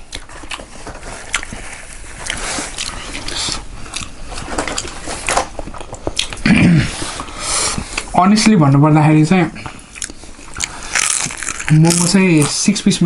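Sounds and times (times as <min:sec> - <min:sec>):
person biting and chewing food: 0:00.0 - 0:08.1, 0:09.8 - 0:12.6.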